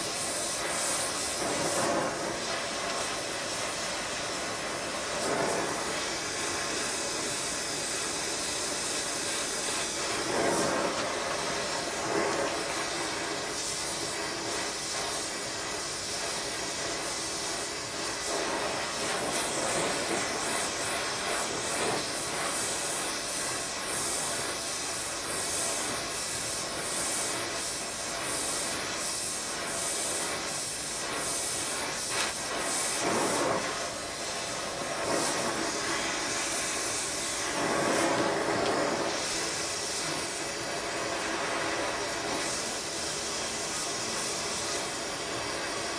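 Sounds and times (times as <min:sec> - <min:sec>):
gas torch flame hissing: 0:00.0 - 0:45.9.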